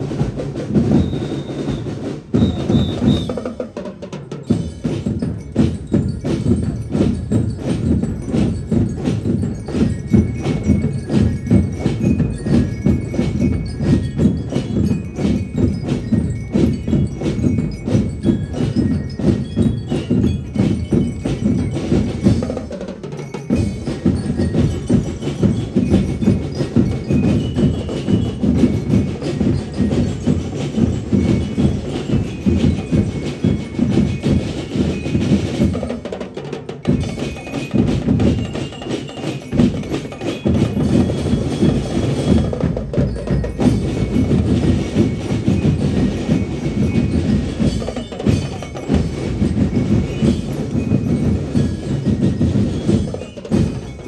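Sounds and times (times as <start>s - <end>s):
bell lyres playing melody: 0.0s - 54.0s
snare and bass drums marching: 0.0s - 54.0s.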